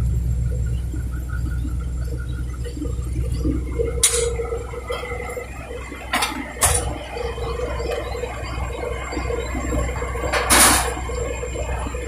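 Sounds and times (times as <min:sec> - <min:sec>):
heavy machine engine idling: 0:00.0 - 0:12.0.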